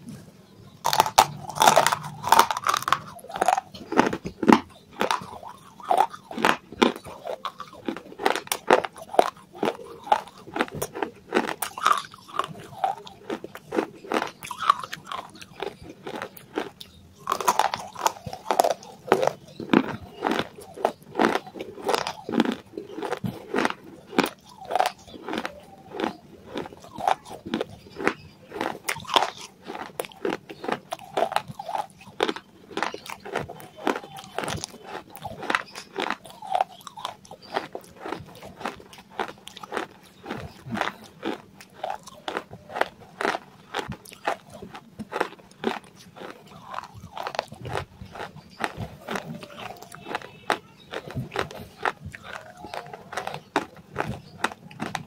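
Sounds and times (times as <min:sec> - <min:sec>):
chewing crunchy clay: 0:00.0 - 0:55.0.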